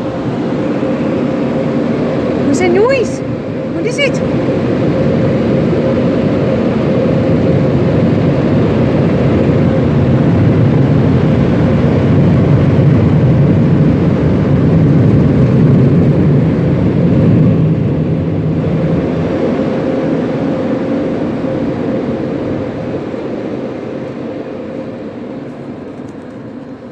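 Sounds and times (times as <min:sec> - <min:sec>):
car wash machinery roaring: 0:00.0 - 0:26.9
faint hum: 0:00.0 - 0:26.9.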